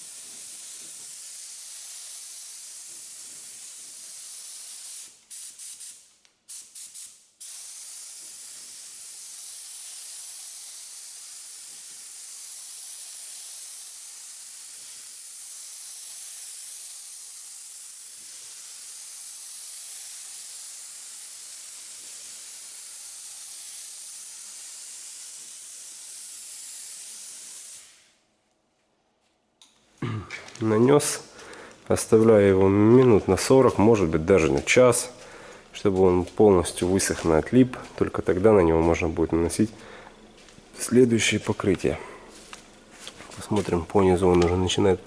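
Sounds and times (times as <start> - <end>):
paint spray gun hissing: 0.0 - 28.2, 30.5 - 45.0.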